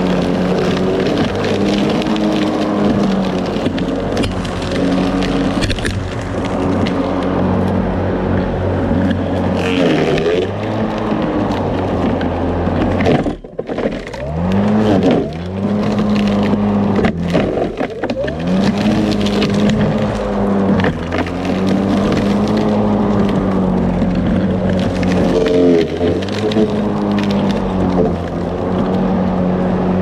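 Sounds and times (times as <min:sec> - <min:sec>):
electric lawn mower running: 0:00.0 - 0:30.0.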